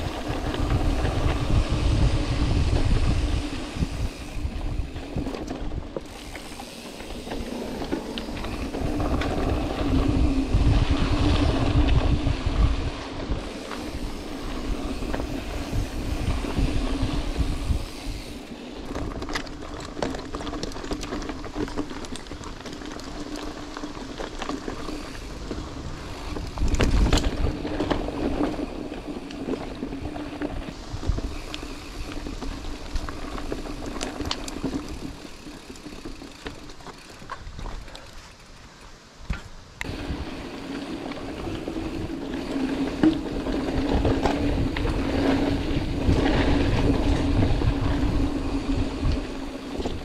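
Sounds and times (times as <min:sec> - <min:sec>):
wind on microphone: 0:00.0 - 0:19.4, 0:24.8 - 0:35.5, 0:39.2 - 0:50.0
bike clicks and rattles: 0:00.0 - 0:50.0
bike tyres humming on dirt: 0:00.0 - 0:50.0.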